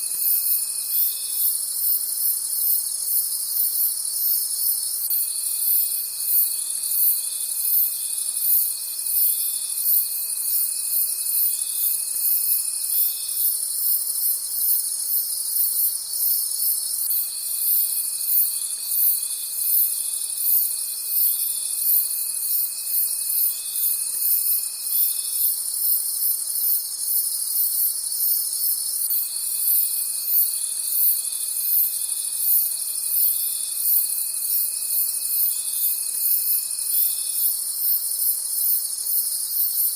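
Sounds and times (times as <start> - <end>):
lower steady insect trill: 0.0 - 39.9.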